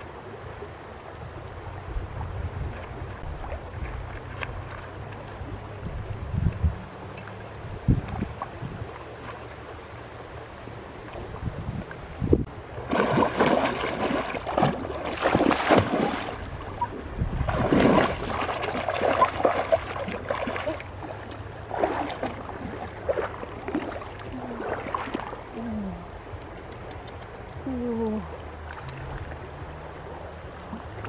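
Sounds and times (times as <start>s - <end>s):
water splashing and sloshing: 0.0s - 31.0s.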